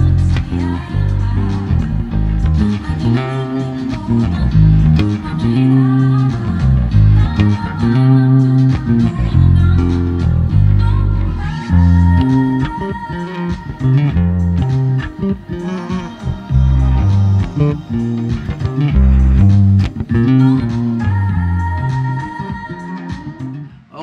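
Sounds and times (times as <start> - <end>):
backing song: 0.0 - 24.0
bass guitar fingerstyle: 0.0 - 24.0.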